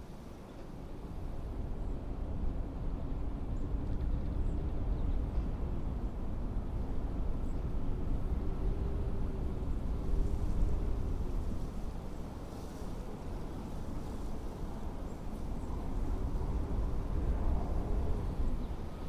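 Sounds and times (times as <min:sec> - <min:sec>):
blizzard wind rumbling: 0:00.0 - 0:19.0
faint howling wind tone: 0:00.0 - 0:19.0.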